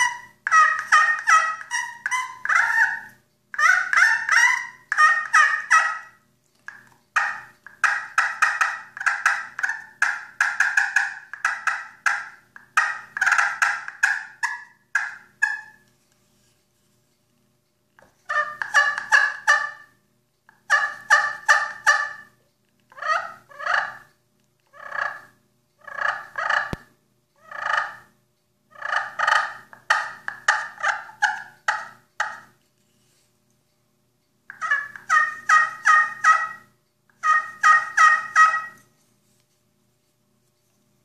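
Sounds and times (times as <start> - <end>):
turkey pot call notes: 0.0 - 15.9, 18.0 - 20.0, 20.6 - 24.1, 24.7 - 28.1, 28.7 - 32.6, 34.5 - 39.0.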